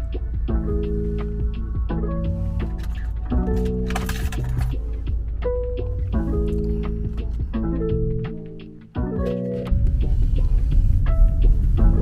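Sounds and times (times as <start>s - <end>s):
light percussion: 0.0s - 12.0s
plucked string music: 0.0s - 12.0s.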